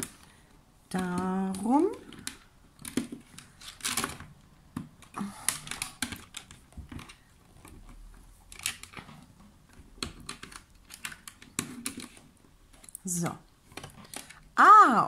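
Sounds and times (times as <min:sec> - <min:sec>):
wire clicking on plastic pegs: 0:00.0 - 0:14.5.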